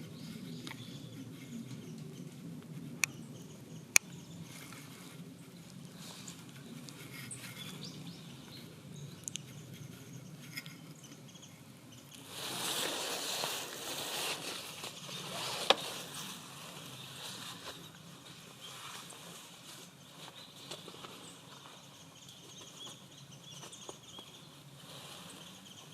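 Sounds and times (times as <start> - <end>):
rustling noise: 4.4 - 25.9.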